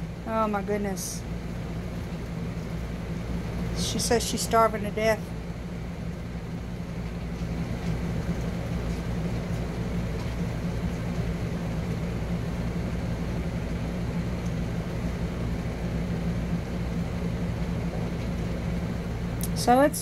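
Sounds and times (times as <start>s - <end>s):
washing machine spin hum: 0.0s - 20.0s.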